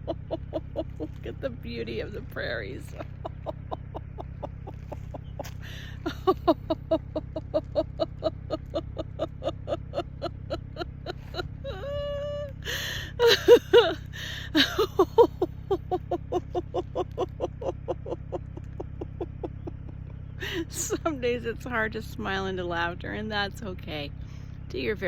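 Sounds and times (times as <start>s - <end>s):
person laughing: 0.0s - 21.2s.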